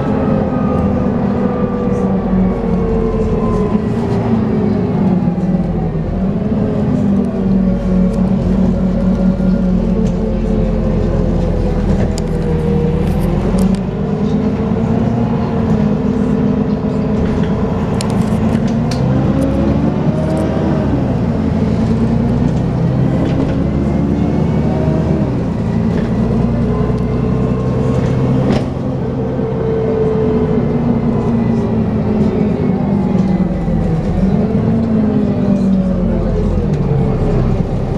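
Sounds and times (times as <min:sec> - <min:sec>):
bus engine running: 0:00.0 - 0:37.9.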